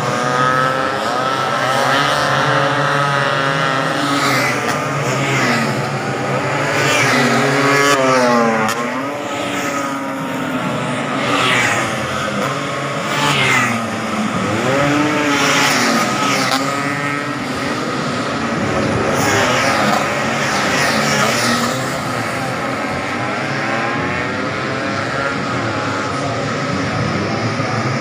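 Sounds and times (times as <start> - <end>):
scooter engines revving: 0.0 - 28.0.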